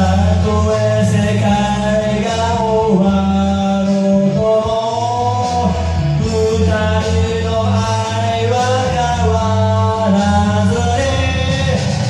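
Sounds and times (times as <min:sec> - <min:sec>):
rock backing track: 0:00.0 - 0:12.0.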